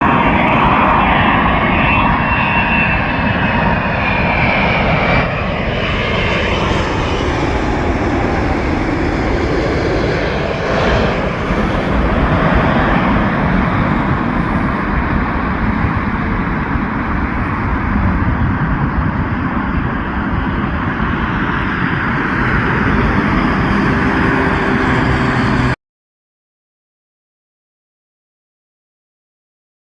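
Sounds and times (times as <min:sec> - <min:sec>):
jet engine whine and rumble: 0:00.0 - 0:25.8.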